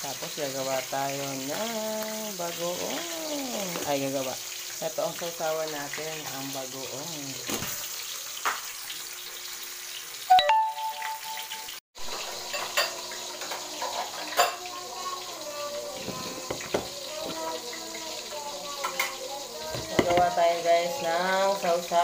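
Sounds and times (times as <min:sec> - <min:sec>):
fish sizzling in hot oil: 0:00.0 - 0:10.4, 0:11.0 - 0:22.0.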